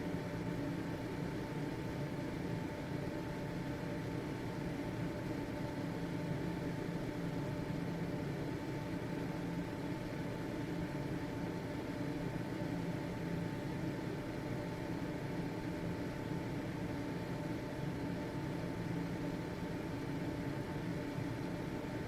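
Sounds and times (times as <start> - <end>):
ventilation fan whirring: 0.0 - 22.0.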